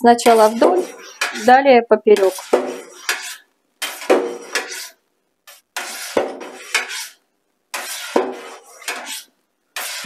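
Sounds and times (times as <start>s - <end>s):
metal knife scraping steel vat: 0.1s - 10.0s.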